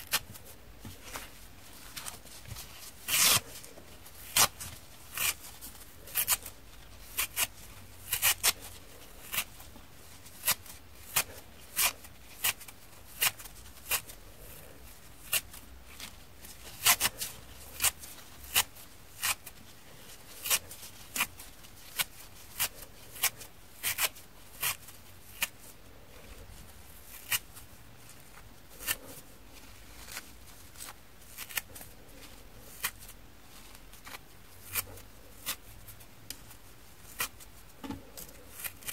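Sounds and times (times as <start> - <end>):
sponge fibres being torn: 1.9 - 9.6, 10.2 - 26.4, 27.0 - 38.9.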